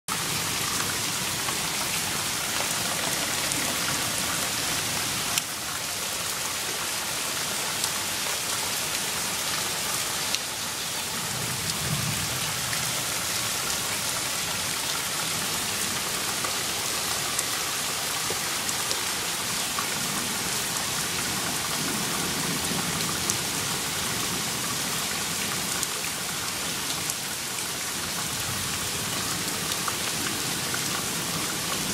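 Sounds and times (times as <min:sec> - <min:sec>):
steady rain hiss: 0:00.1 - 0:31.9.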